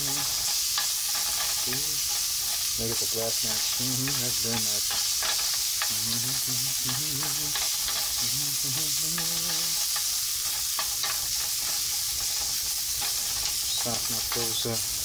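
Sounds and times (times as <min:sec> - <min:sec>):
utensil clicking against pan: 0:00.0 - 0:14.8
vegetables sizzling in a frying pan: 0:00.0 - 0:15.0.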